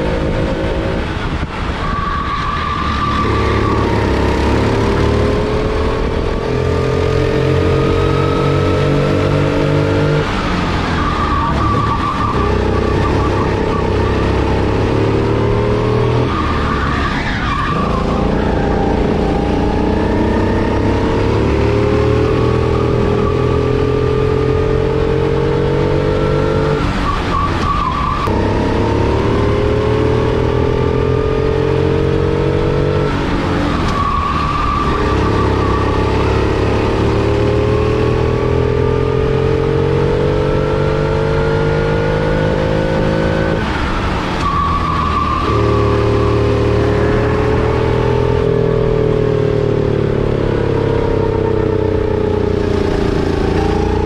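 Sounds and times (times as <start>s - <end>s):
kart engine accelerating: 0.0s - 54.0s.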